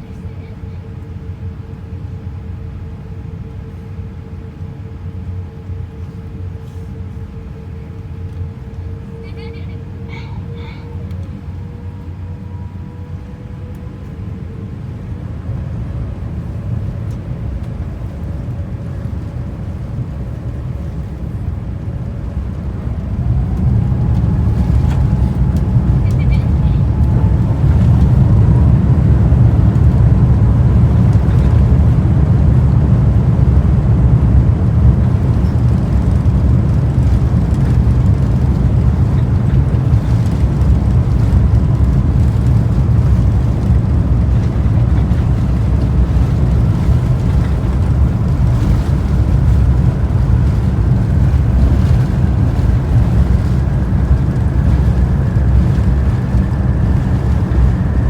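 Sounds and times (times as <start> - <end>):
jet engines rumbling: 0.0 - 58.0
jet engine whine rising: 10.6 - 58.0.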